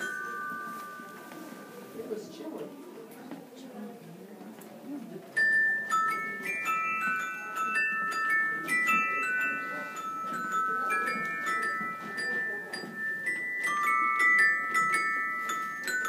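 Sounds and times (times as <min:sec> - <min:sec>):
bell-like melody: 0:00.0 - 0:02.6, 0:05.4 - 0:16.0
soft low background noise: 0:00.0 - 0:16.0.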